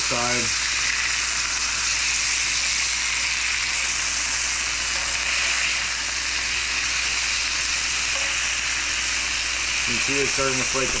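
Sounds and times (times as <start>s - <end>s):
fish fillets sizzling in a pan: 0.0s - 11.0s.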